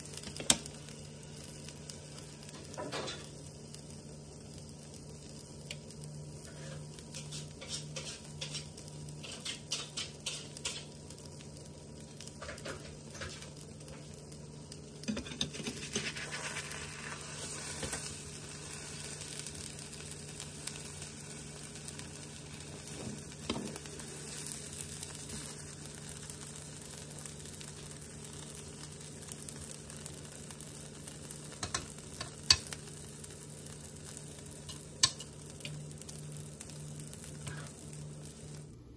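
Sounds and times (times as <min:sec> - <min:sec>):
omelette sizzling in a pan: 0:00.0 - 0:38.9.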